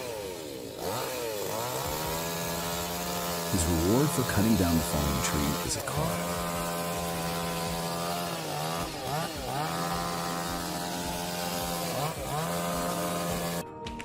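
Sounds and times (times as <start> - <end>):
chainsaw engine revving: 0.0 - 13.7.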